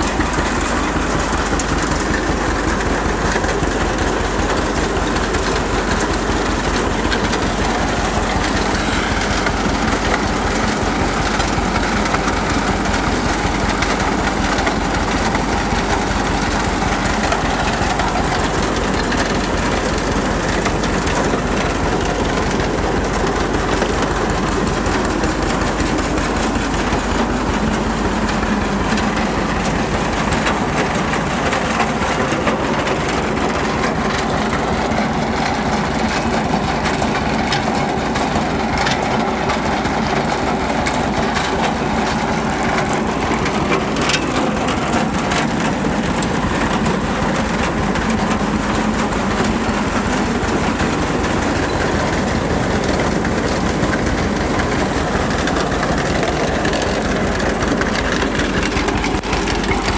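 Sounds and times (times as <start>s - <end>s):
chain conveyor running: 0.0s - 59.9s
tractor engine running: 0.0s - 59.9s.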